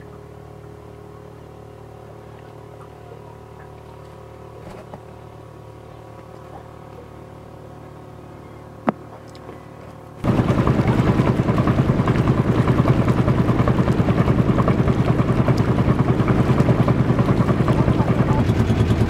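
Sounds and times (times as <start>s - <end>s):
motorboat engine running: 0.0s - 19.0s
water rushing along hull: 0.0s - 19.0s.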